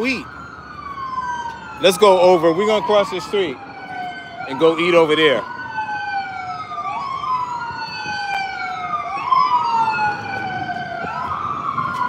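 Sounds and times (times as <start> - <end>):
emergency sirens wailing: 0.0 - 12.0.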